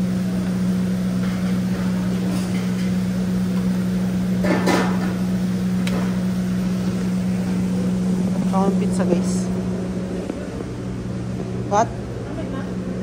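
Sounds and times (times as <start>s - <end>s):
kitchen equipment hum: 0.0s - 13.0s.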